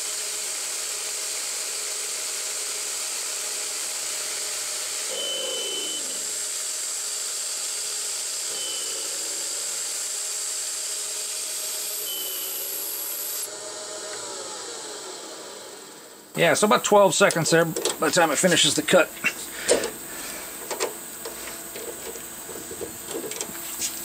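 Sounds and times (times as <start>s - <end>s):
lathe cutting hiss: 0.0s - 24.0s
lathe spindle running: 0.0s - 24.0s.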